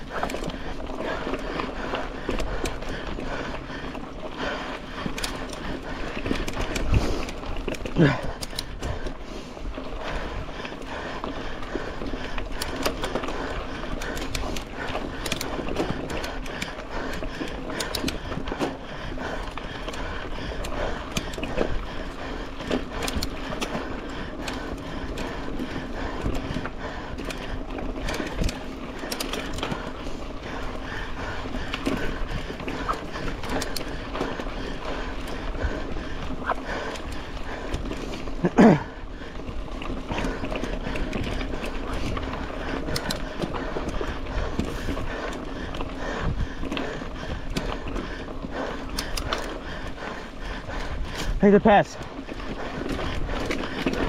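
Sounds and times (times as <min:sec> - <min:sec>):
bike parts rattling: 0:00.0 - 0:54.0.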